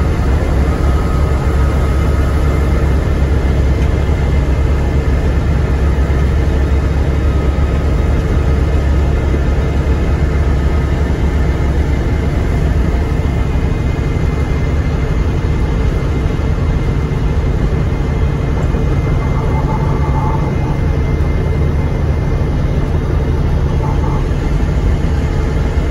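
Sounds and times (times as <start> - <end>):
bus diesel engine droning: 0.0 - 25.9.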